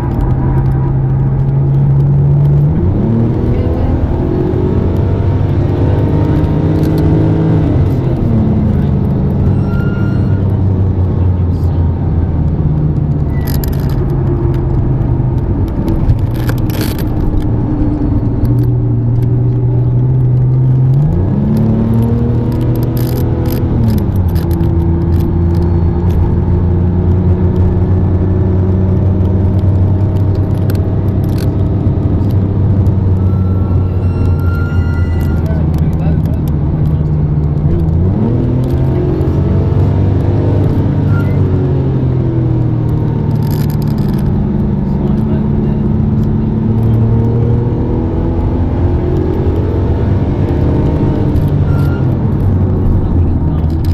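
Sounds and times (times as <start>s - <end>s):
sports car engine from cabin: 0.0s - 53.9s.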